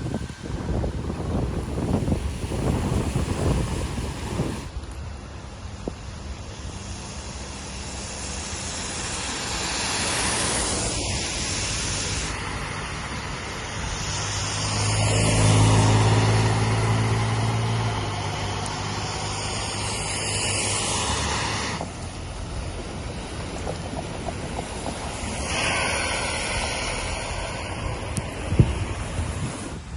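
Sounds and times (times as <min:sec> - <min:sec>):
vehicle engine passing close: 0:00.0 - 0:04.7, 0:07.9 - 0:29.9
road traffic in stormy weather: 0:00.0 - 0:29.9.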